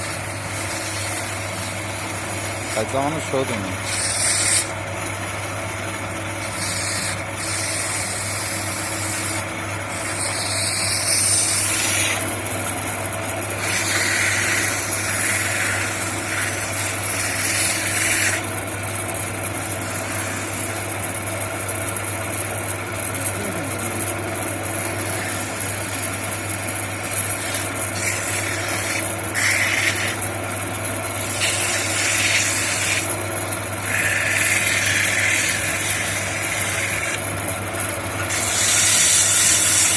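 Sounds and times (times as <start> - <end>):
lathe motor hum: 0.0 - 39.9
wood rasping and scraping: 0.0 - 39.9.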